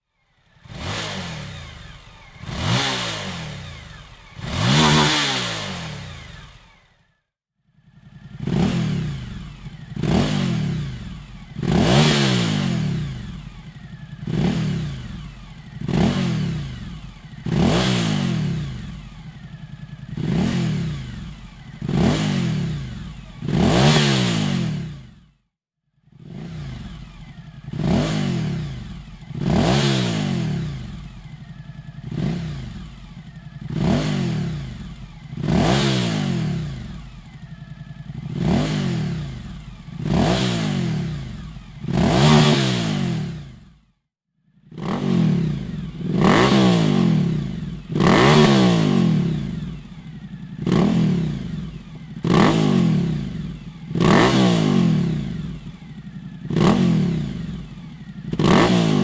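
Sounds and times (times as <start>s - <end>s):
motorcycle engine revving: 0.1s - 7.2s, 7.8s - 25.4s, 26.1s - 43.9s, 44.6s - 59.0s.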